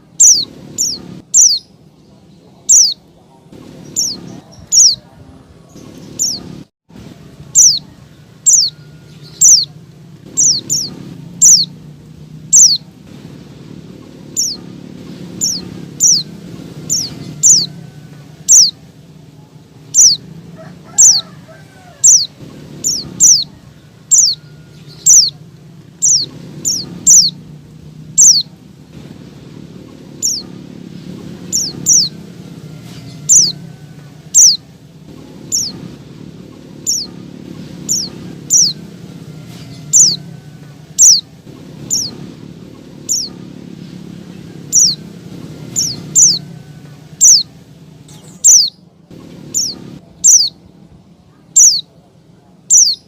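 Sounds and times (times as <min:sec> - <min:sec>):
white-eye bird calling: 0:00.0 - 0:06.7, 0:07.4 - 0:50.6, 0:51.3 - 0:52.0, 0:52.6 - 0:53.0.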